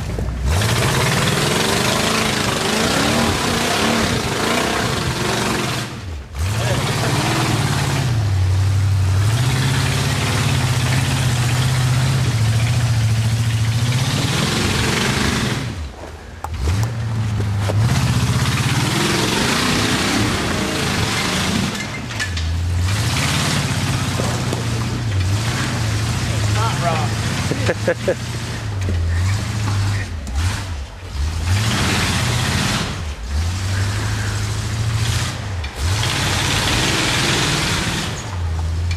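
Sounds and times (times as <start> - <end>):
off-road vehicle engine under load: 0.0 - 38.9.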